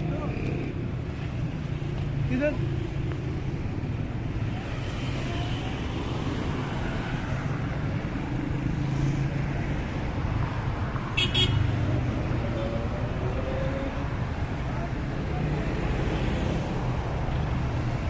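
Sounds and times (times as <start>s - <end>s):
street traffic engines: 0.0s - 18.0s.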